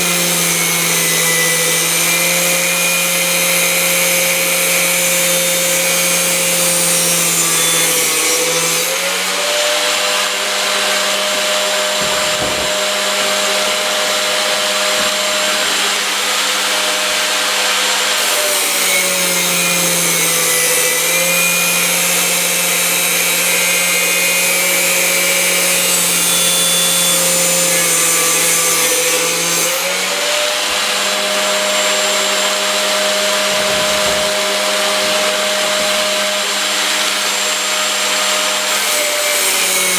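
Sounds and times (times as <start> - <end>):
angle grinder cutting metal tubing: 0.0 - 39.9.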